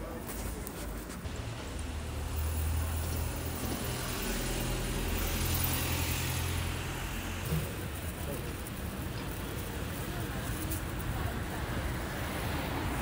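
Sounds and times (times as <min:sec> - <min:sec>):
tyres hissing on road: 0:00.0 - 0:13.0
vehicle engine drone: 0:01.3 - 0:12.2.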